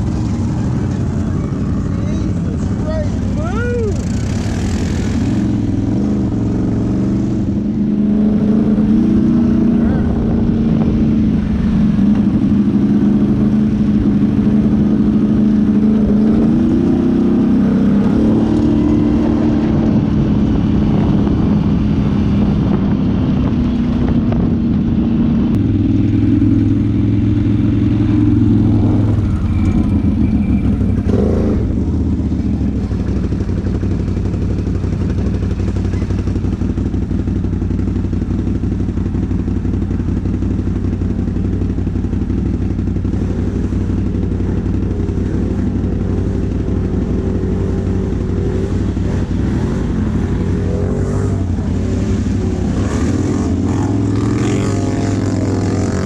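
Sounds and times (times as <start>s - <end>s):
atv engine revving: 0.0s - 22.7s, 25.1s - 56.0s.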